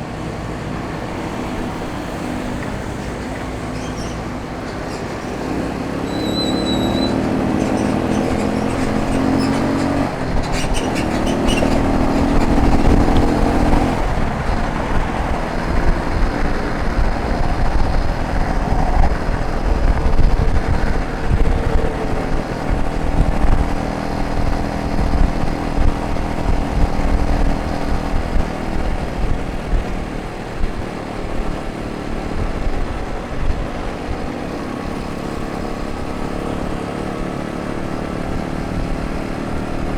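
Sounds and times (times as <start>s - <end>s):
motorcycle engine running: 0.0s - 39.9s
wind rumbling on microphone: 0.0s - 39.9s.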